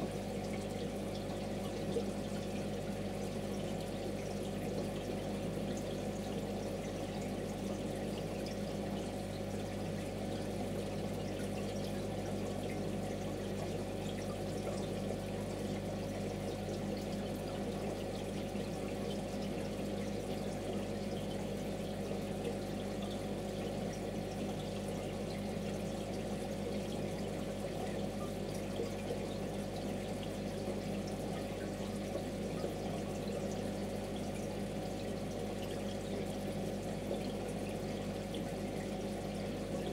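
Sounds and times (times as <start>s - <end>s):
aquarium water trickling: 0.0s - 39.9s
low steady hum: 0.0s - 39.9s.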